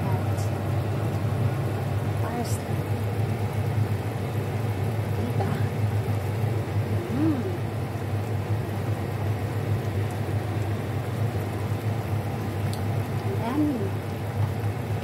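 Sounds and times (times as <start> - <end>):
low steady hum: 0.0 - 15.0
sauce bubbling in a wok: 0.0 - 15.0.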